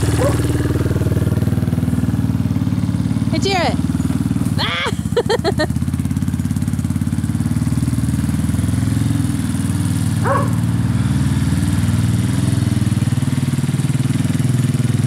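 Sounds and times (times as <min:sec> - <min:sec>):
small engine humming: 0:00.0 - 0:15.0.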